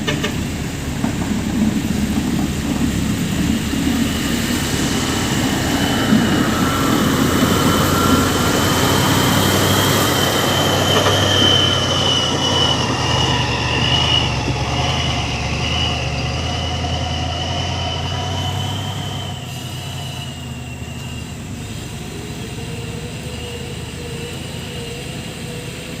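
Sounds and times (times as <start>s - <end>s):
diesel engine running: 0.0s - 26.0s
high wavering whine: 0.0s - 26.0s.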